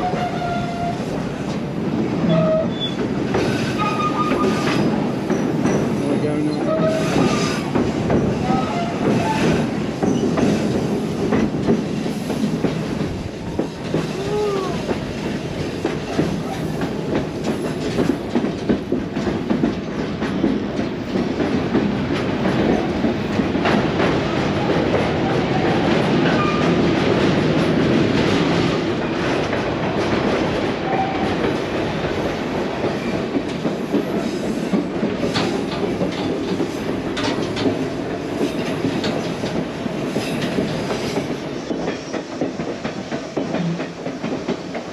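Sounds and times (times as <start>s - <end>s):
clickety-clack of wheels: 0.0s - 44.9s
train rumbling along track: 0.0s - 44.9s.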